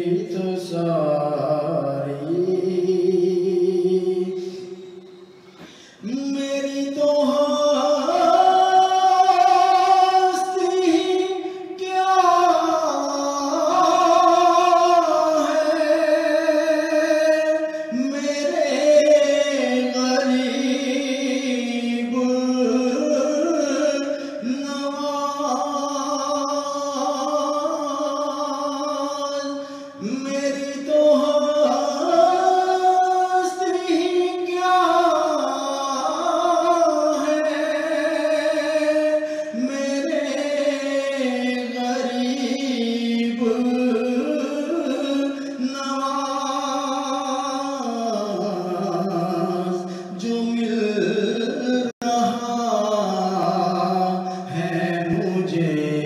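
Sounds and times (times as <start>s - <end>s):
man singing devotional song: 0.0s - 56.0s.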